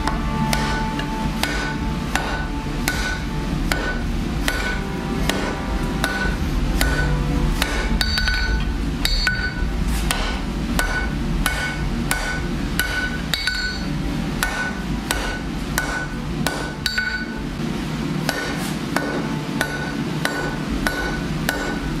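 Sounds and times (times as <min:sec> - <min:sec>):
hammer striking metal on anvil: 0:00.0 - 0:17.6, 0:18.2 - 0:22.0
steady low hum: 0:00.0 - 0:22.0.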